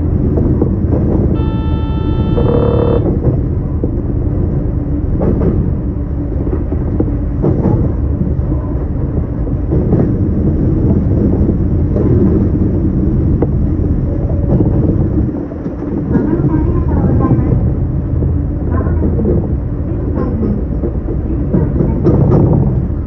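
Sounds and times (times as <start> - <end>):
train wheels rumbling on rail: 0.0 - 1.3, 3.1 - 23.0.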